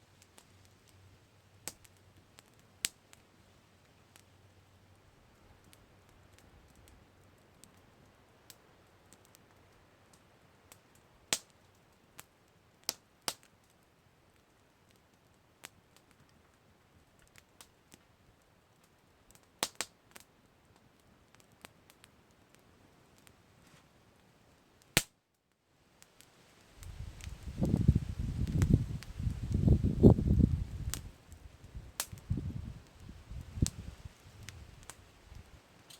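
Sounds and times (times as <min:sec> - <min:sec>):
faint fire hiss: 0:00.0 - 0:35.9
campfire crackling and popping: 0:00.1 - 0:25.2, 0:26.0 - 0:35.9.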